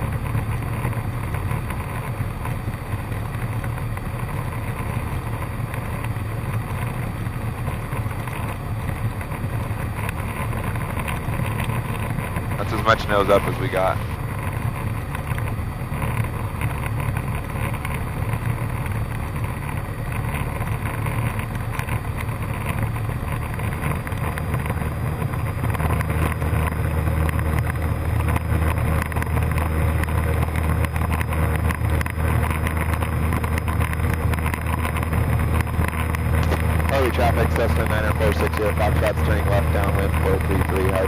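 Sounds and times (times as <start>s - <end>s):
airplane engine droning: 0.0s - 41.0s.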